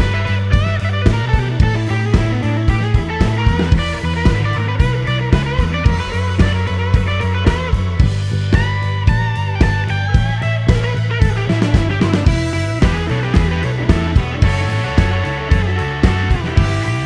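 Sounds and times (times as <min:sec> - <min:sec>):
bass line: 0:00.0 - 0:17.0
drum beat: 0:00.0 - 0:17.0
guitar music: 0:00.0 - 0:17.0.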